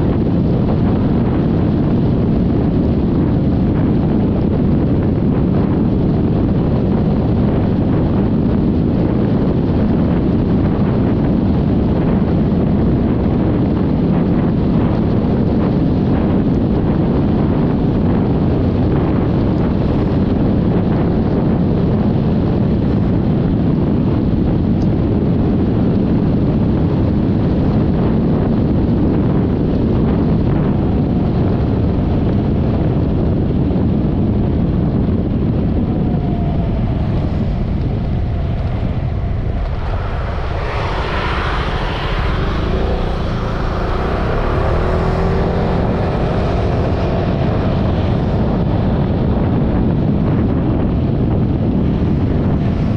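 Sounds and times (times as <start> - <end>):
heavy wind rush on microphone: 0.0 - 52.9.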